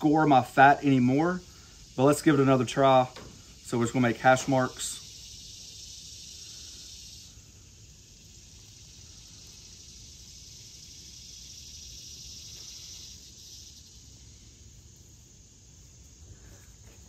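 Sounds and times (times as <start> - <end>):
faint high-pitched hiss: 0.0 - 17.0.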